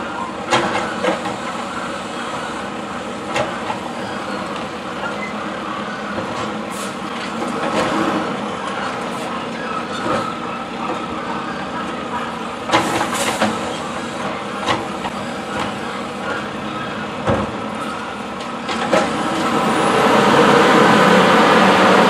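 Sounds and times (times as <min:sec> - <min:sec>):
garbage truck running: 0:00.0 - 0:22.0.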